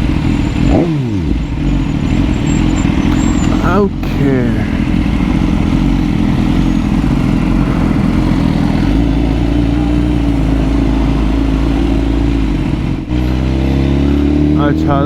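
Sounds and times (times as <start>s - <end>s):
motorcycle engine running: 0.0s - 15.0s
road noise: 0.0s - 15.0s.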